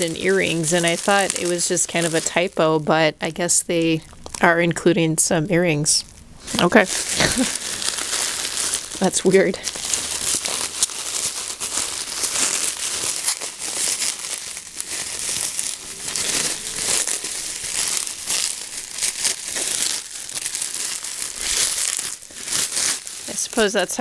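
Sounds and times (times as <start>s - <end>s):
bubble wrap crinkling: 0.0s - 4.9s, 5.8s - 24.0s.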